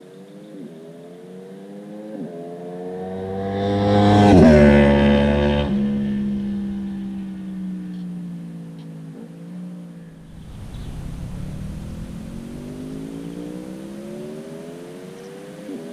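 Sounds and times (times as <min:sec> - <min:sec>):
motorcycle engine accelerating past: 0:00.5 - 0:15.9.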